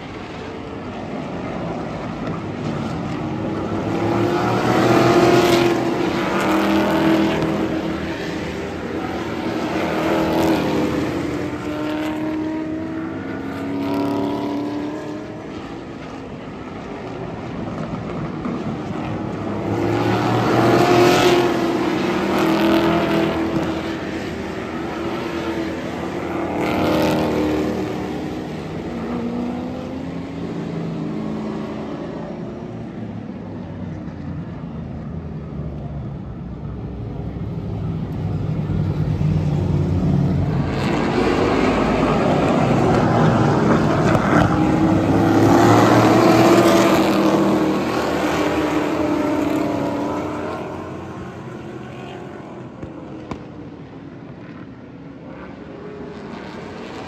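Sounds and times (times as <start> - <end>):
stock car engines racing past: 0.0 - 57.0.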